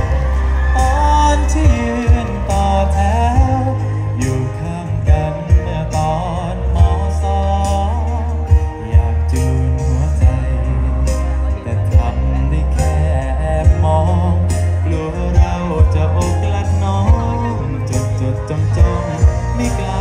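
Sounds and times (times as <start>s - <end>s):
heavy bass line: 0.0s - 20.0s
person singing with vibrato: 0.0s - 20.0s.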